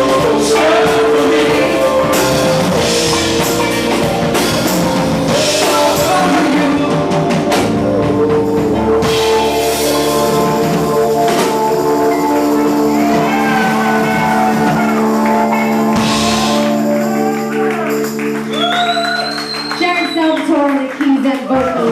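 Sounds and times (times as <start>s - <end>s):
person singing: 0.0s - 17.9s
drums and cymbals: 0.0s - 20.0s
rock band playing: 0.0s - 21.8s.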